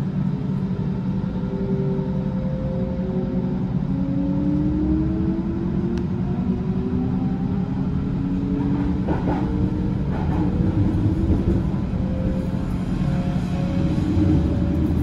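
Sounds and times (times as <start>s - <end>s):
electric train rumble: 0.0s - 15.0s.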